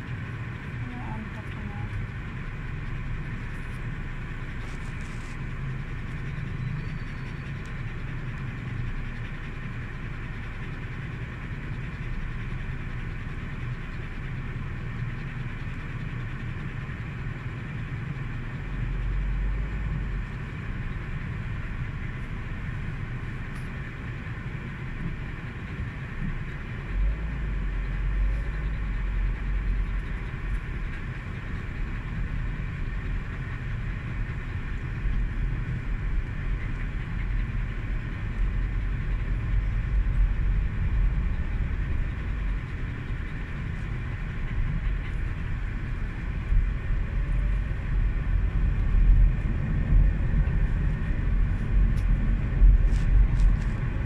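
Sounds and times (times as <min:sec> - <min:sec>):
car road and engine noise: 0:00.0 - 0:54.0
deep rumble: 0:00.0 - 0:54.0.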